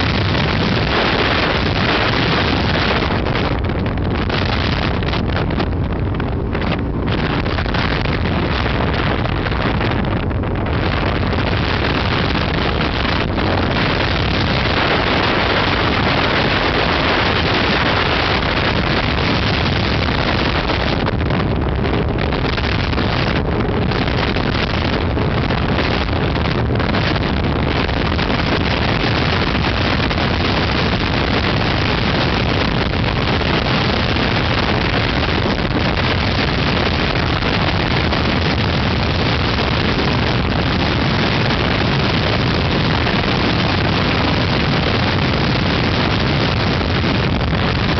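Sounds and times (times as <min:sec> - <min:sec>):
speedboat engine hum: 0:00.0 - 0:47.9
wind rushing over microphone: 0:00.0 - 0:47.9.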